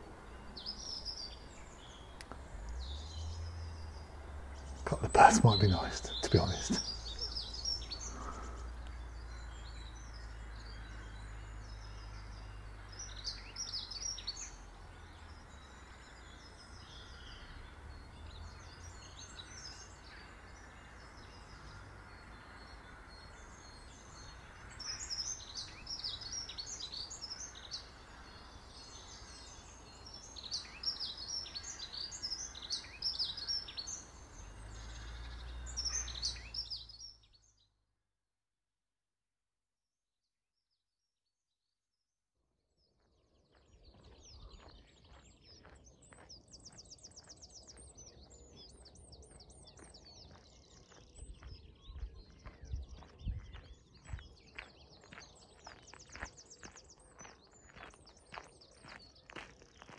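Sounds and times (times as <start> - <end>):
small songbirds chirping: 0.0 - 37.8, 42.7 - 59.9.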